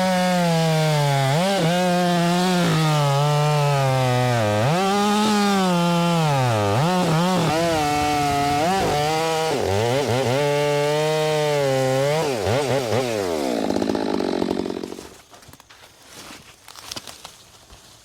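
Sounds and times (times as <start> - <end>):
chainsaw cutting log: 0.0 - 15.2.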